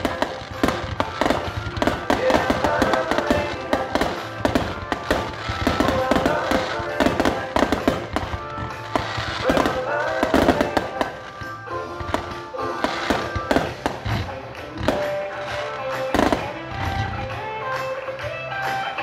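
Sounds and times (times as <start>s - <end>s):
fireworks exploding: 0.0s - 19.0s
music playing: 0.0s - 19.0s.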